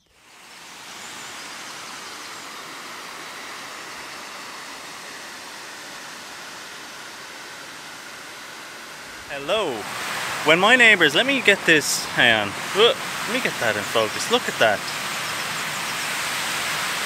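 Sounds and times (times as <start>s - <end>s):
water rushing over waterfall: 0.2s - 17.0s.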